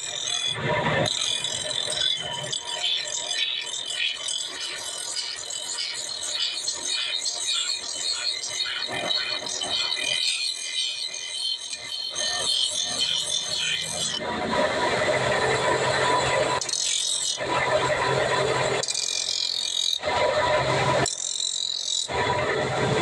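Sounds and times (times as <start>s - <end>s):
grinding machine hum: 0.0s - 23.0s.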